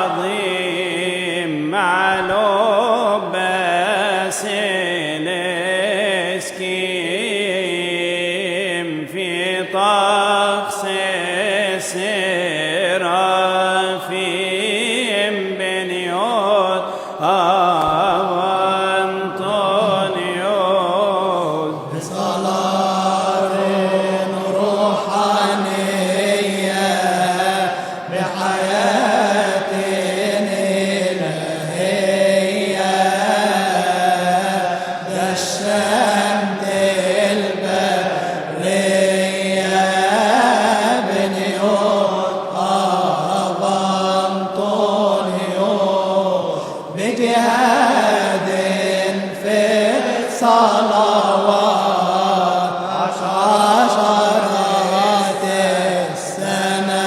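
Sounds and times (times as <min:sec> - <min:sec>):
man chanting a hymn: 0:00.0 - 0:57.0.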